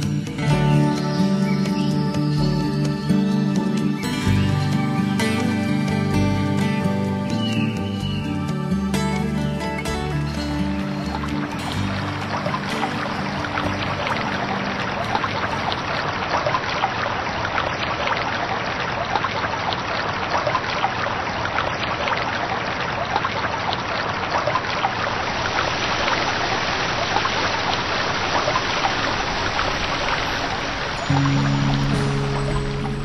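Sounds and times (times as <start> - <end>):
water trickling and bubbling: 0.0 - 33.0.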